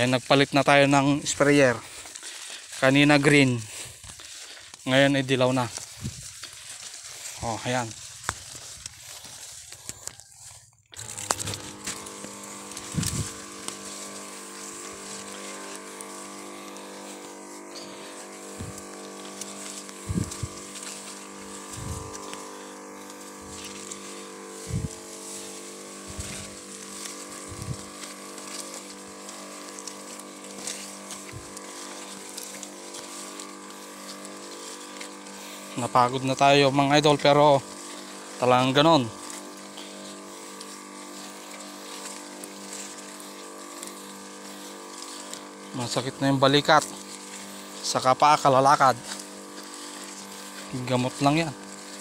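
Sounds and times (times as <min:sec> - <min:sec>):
crop sprayer engine humming: 0:00.0 - 0:52.0.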